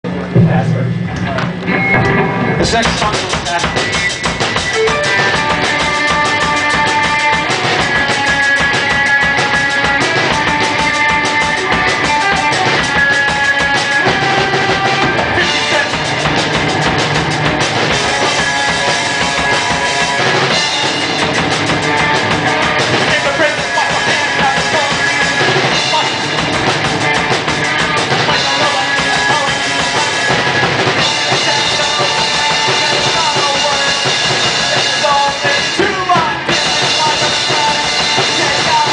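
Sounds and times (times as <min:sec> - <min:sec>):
held guitar tones: 0:00.0 - 0:38.9
drum kit steady beat: 0:00.1 - 0:38.9
live rock band playing: 0:00.1 - 0:38.9.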